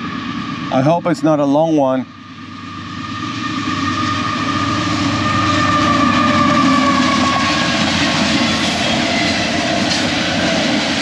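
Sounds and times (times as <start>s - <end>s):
train rumbling on tracks: 0.0s - 11.0s.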